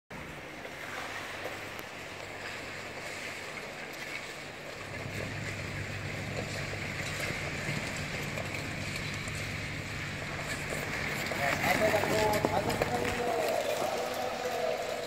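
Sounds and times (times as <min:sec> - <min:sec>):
ice rink ambience hiss: 0:00.2 - 0:15.0
low steady hum: 0:00.2 - 0:15.0.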